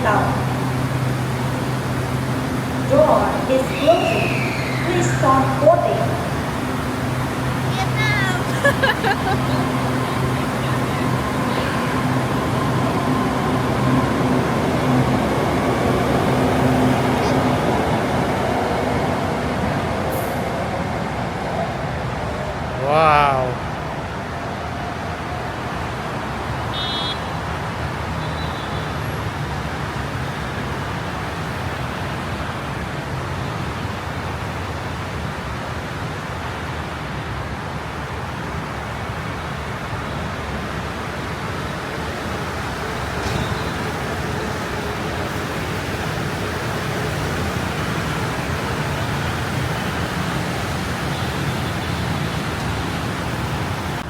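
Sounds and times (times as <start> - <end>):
metro train rumbling: 0.0 - 54.0.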